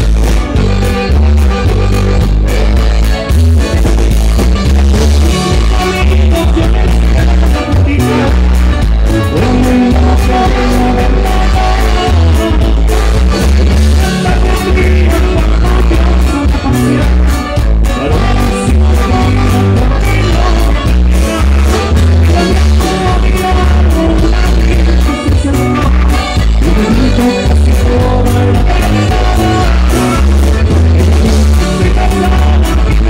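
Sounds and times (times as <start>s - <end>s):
live band playing dance music: 0.0s - 33.0s
person singing: 0.0s - 33.0s.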